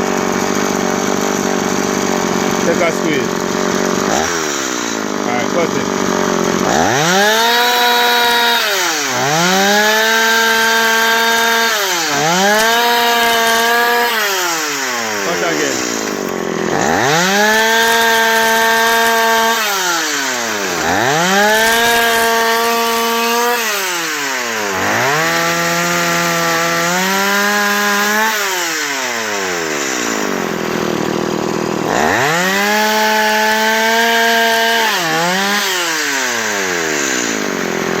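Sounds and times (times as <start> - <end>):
chainsaw revving and idling: 0.0 - 38.0.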